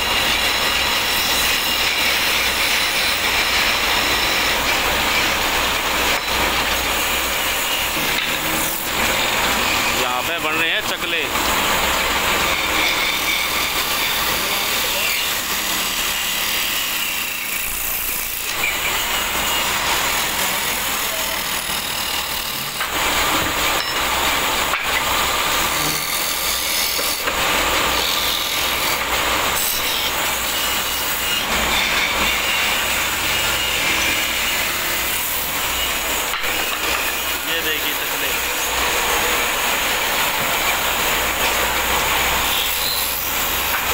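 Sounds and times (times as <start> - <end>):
chisel rasping on turning wood: 0.0 - 23.6, 24.6 - 43.9
lathe motor hum: 0.0 - 43.9.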